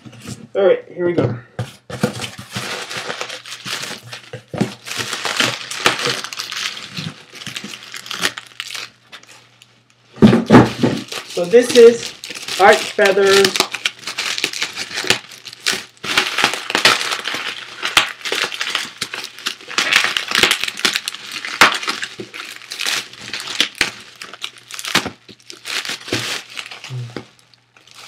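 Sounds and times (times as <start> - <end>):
bubble wrap crinkling: 2.0 - 28.0.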